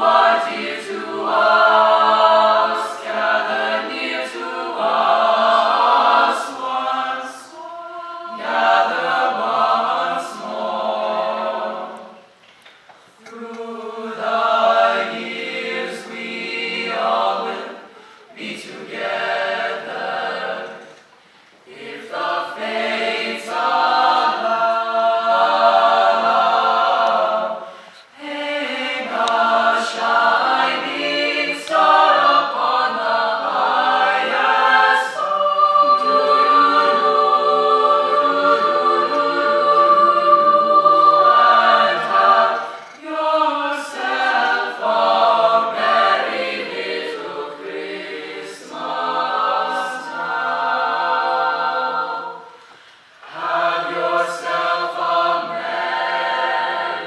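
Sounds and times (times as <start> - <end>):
choir singing a cappella: 0.0 - 12.4, 13.0 - 57.0.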